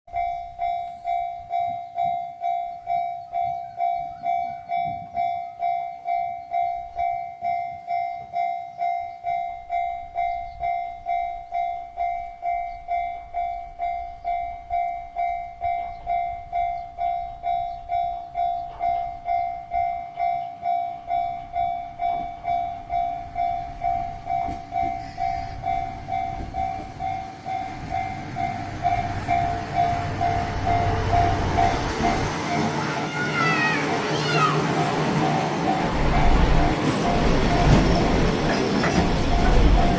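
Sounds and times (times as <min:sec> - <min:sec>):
level crossing bell ringing: 0:00.1 - 0:38.3
train rumbling: 0:00.1 - 0:39.9.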